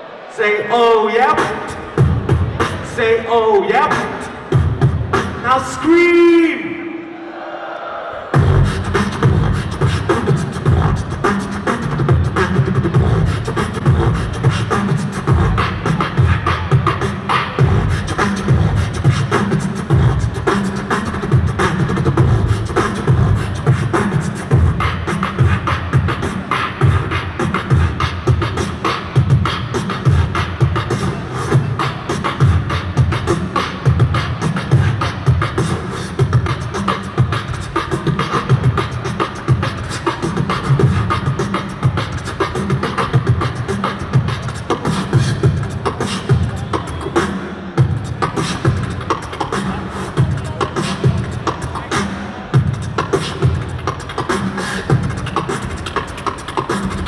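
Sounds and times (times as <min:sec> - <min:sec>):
person beatboxing into microphone: 0:00.8 - 0:07.0, 0:08.3 - 0:57.0.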